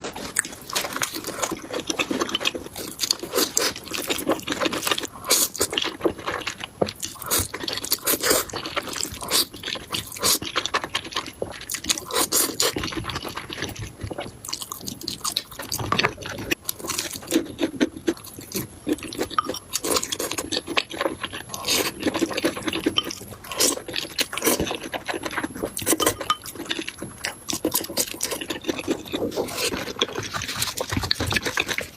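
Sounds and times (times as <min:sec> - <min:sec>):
chewing and smacking: 0:00.0 - 0:31.9.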